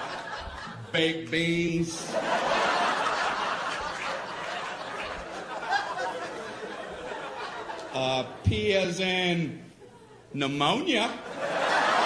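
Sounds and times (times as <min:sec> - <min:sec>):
audience laughing: 0:00.0 - 0:09.0, 0:11.2 - 0:12.0.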